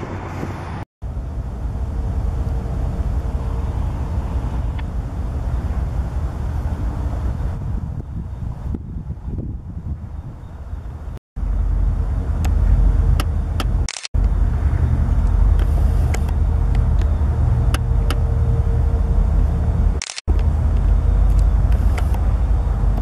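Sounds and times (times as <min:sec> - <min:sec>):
diesel locomotive rumble: 0:00.0 - 0:23.0.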